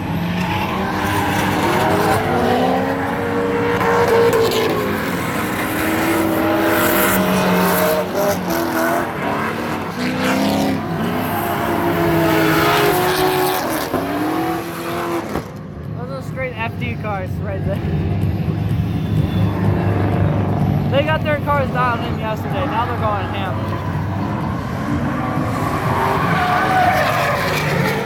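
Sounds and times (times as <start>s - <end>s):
sliding tyre noise: 0.0s - 15.6s, 17.9s - 28.0s
car engines revving: 0.0s - 28.0s.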